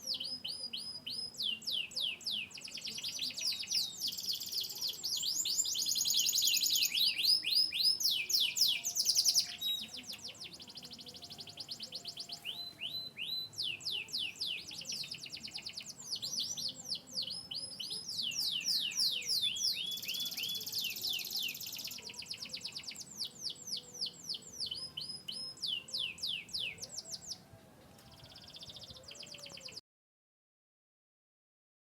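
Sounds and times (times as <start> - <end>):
canary singing trills: 0.0 - 29.8.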